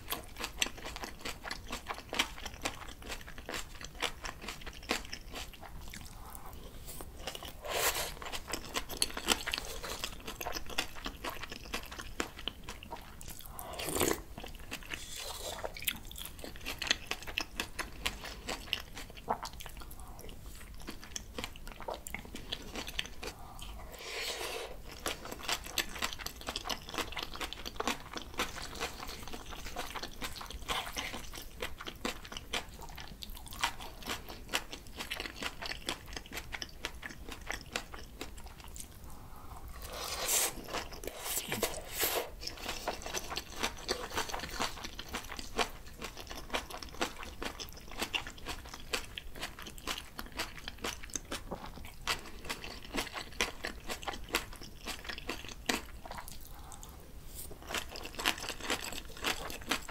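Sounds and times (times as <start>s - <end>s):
close chewing and crunching: 0.0s - 59.9s.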